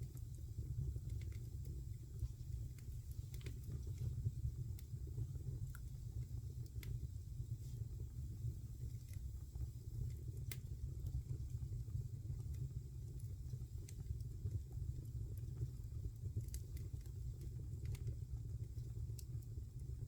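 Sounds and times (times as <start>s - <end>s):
fire crackling and popping: 0.0s - 20.0s
fire flames rumbling: 0.0s - 20.0s.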